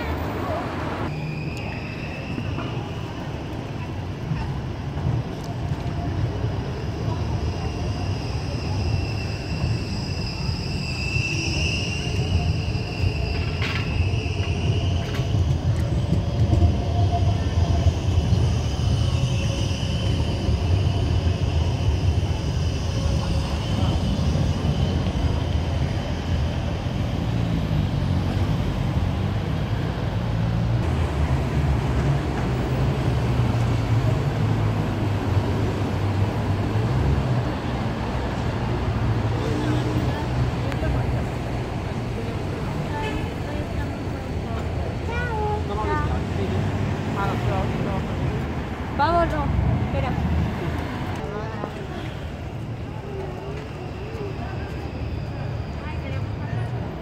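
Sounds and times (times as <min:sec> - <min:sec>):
tram rumbling past: 0:00.0 - 0:57.0
tram wheels squealing: 0:00.0 - 0:57.0.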